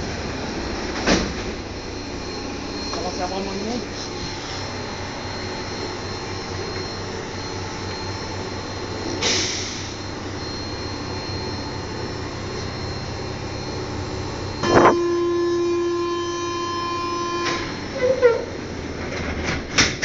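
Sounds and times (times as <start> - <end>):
metro car hum and rumble: 0.0 - 20.0.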